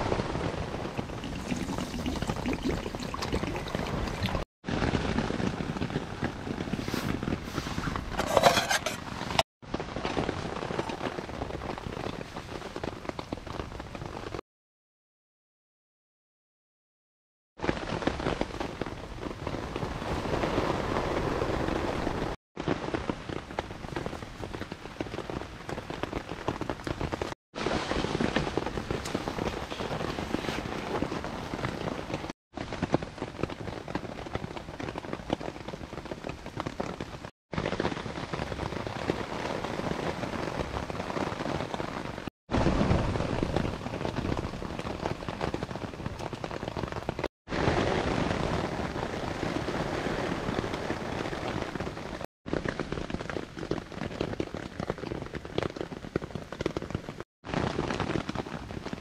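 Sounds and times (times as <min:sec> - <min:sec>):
rain pattering on a tarp: 0:00.0 - 0:07.5, 0:09.3 - 0:14.4, 0:17.6 - 0:59.0.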